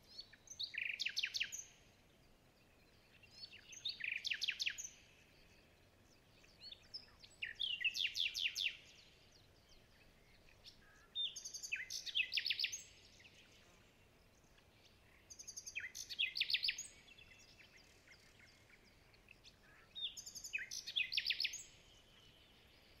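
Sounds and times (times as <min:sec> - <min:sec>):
faint background hiss: 0:00.0 - 0:23.0.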